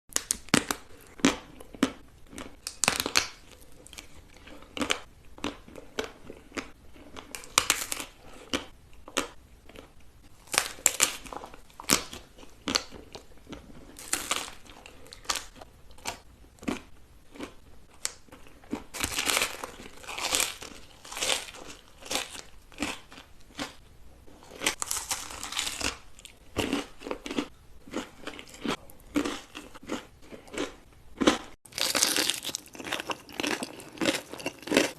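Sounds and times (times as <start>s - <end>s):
person crunching food: 0.1s - 34.9s.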